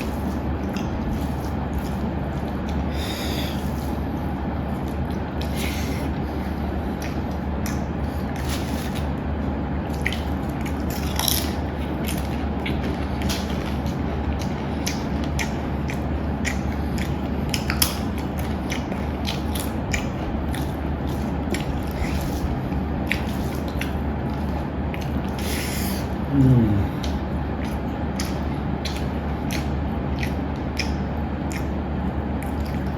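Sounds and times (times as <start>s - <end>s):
eating clicks and crunches: 0.0s - 32.9s
steady low hum: 0.0s - 32.9s.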